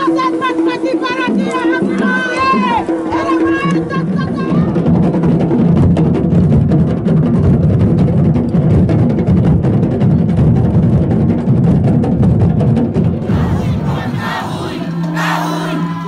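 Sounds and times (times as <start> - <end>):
fast drumming on deep drums: 0.0 - 15.1.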